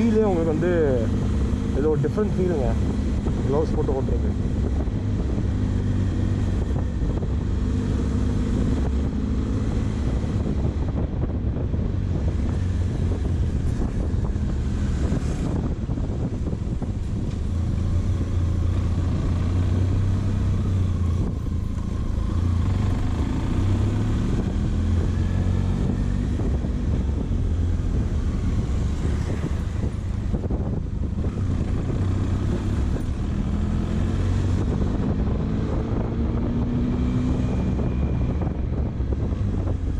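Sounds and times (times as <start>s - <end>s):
motorcycle engine hum: 0.0s - 39.9s
road noise: 0.0s - 39.9s.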